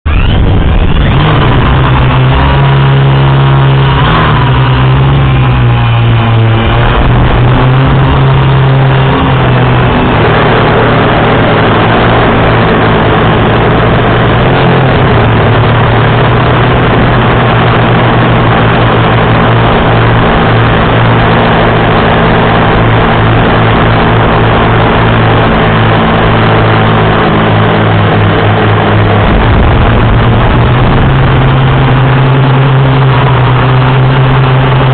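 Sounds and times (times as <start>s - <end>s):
quadcopter propellers humming: 0.0s - 34.9s.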